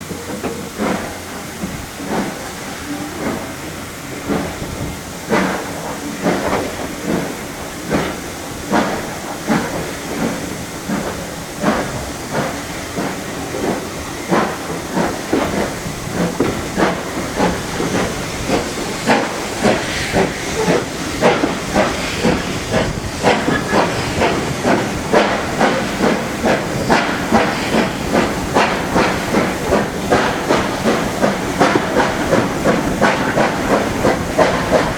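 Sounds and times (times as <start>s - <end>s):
steam hissing: 0.0s - 34.9s
steam locomotive exhaust chuffs: 0.0s - 34.9s.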